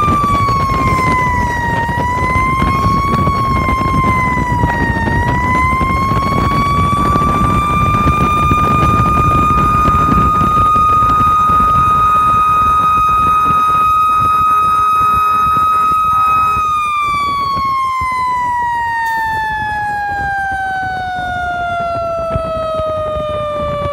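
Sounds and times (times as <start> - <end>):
fire engine mechanical siren: 0.0 - 23.9
truck engine and road noise: 0.0 - 23.9.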